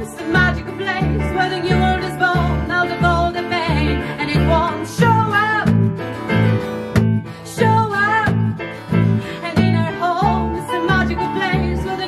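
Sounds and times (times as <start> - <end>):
plodding electric bass: 0.0 - 12.0
sliding melody line: 0.0 - 12.0
strummed acoustic guitar: 0.0 - 12.0.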